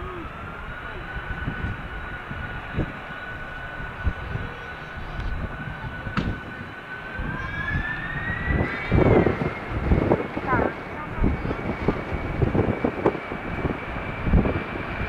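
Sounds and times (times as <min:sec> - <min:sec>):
airliner engines whining: 0:00.0 - 0:15.0
wind buffeting microphone: 0:00.0 - 0:15.0.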